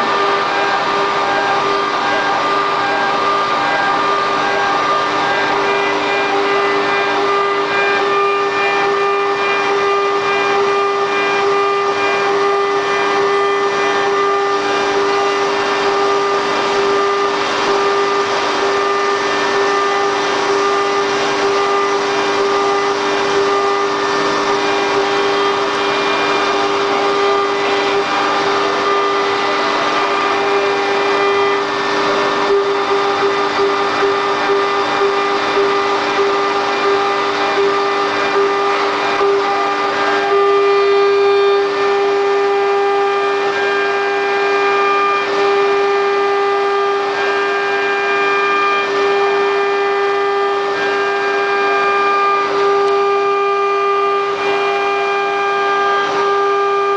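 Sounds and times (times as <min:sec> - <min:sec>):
router spindle high hum: 0:00.0 - 0:56.9.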